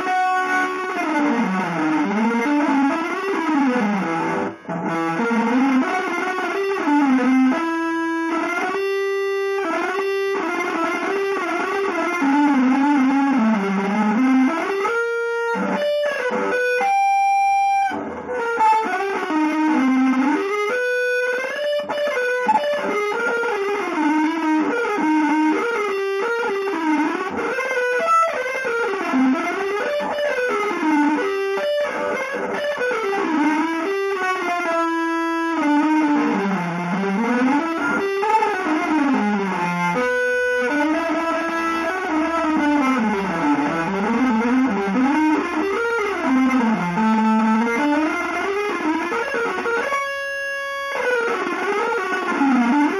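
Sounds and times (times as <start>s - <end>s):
electric guitar pitch glides: 0.0s - 52.9s.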